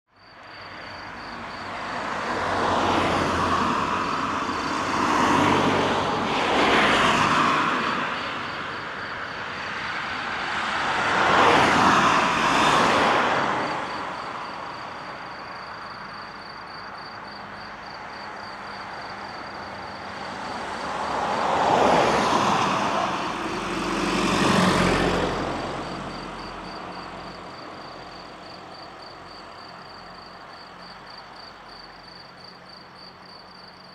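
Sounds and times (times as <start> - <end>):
cars passing by: 0.1 - 33.9.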